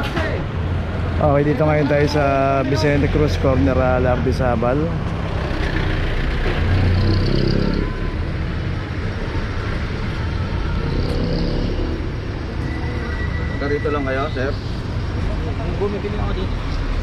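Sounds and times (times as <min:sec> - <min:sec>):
low traffic hum: 0:00.0 - 0:17.0
vehicle engine rumbling: 0:00.0 - 0:17.0.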